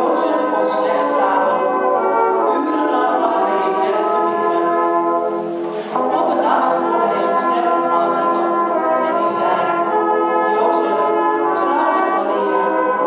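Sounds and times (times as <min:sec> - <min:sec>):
brass band playing slow chords: 0:00.0 - 0:13.0.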